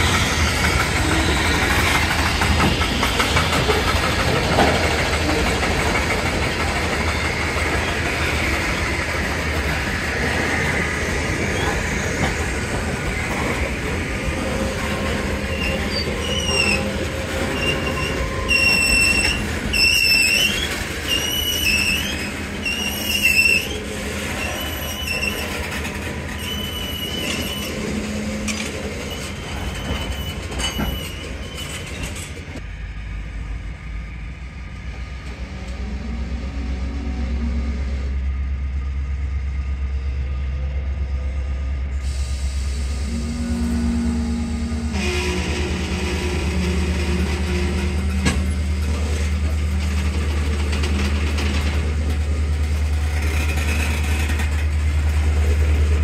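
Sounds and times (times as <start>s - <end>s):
train wheels squealing on rail: 0.0s - 37.9s, 39.8s - 56.0s
diesel locomotive engine rumble: 0.0s - 56.0s
rumble of rolling train cars: 0.0s - 56.0s.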